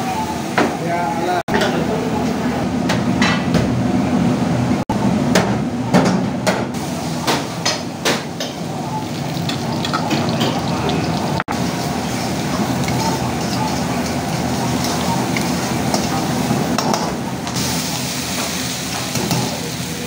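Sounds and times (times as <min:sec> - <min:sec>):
low kitchen hum: 0:00.0 - 0:20.0.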